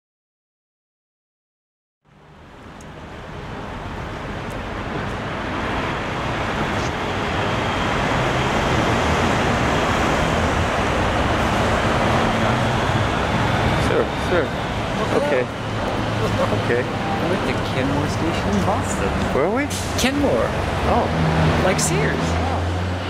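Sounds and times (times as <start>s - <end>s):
city street traffic: 2.0s - 23.0s.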